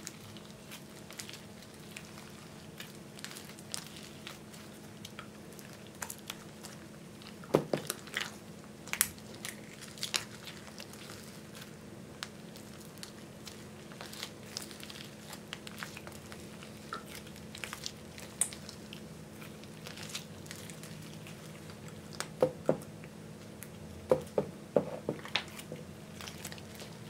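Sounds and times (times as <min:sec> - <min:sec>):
sticky slime crackling and popping: 0:00.0 - 0:23.8, 0:25.2 - 0:27.0.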